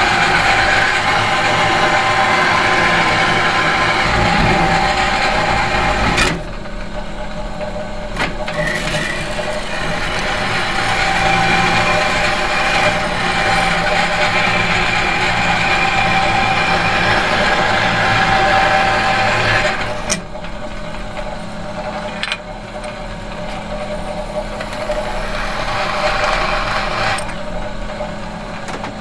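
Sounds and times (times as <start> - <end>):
metallic machine hum: 0.0 - 28.8.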